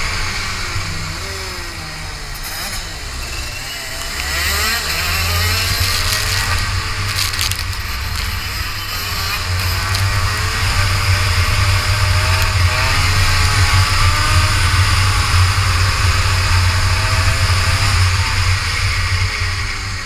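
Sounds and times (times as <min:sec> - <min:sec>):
kart engine running at speed: 0:00.0 - 0:20.0.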